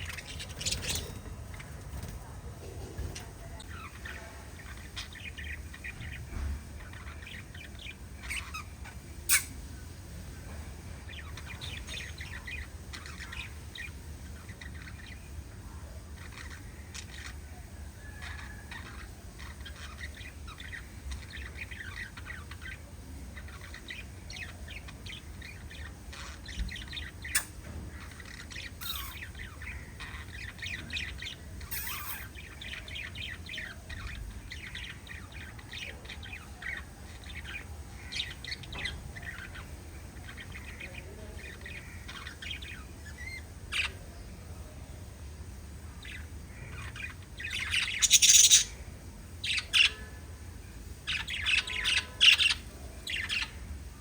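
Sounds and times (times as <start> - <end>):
budgerigars chirping: 0.0 - 9.7, 11.0 - 15.5, 16.1 - 44.6, 46.0 - 50.2, 51.0 - 53.8.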